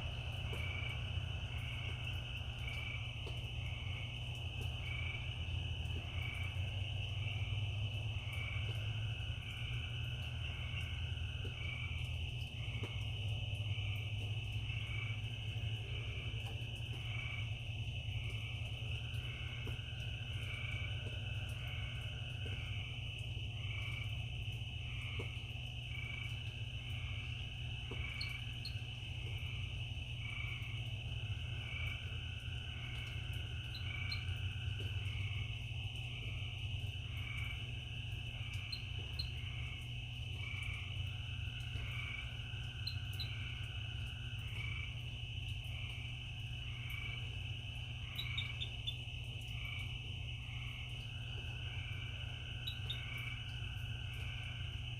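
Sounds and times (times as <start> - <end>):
cricket chirping: 0.0 - 54.9
frogs calling: 0.0 - 54.9
high insect trill: 0.0 - 54.9
low background rumble: 0.0 - 54.9.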